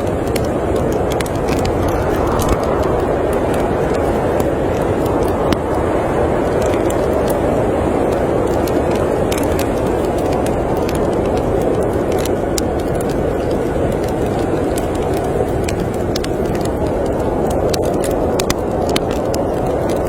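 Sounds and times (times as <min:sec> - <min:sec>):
snowstorm wind rushing: 0:00.0 - 0:20.0
wood fire crackling: 0:00.0 - 0:20.0.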